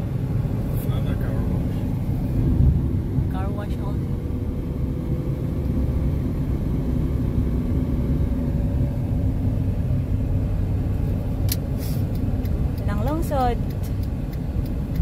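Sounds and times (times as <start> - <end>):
tyre and engine rumble in car: 0.0 - 15.0.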